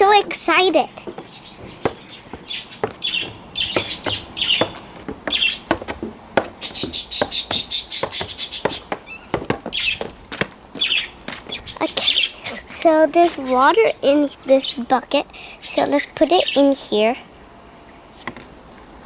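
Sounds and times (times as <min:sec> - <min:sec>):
small birds chirping: 0:00.0 - 0:18.6.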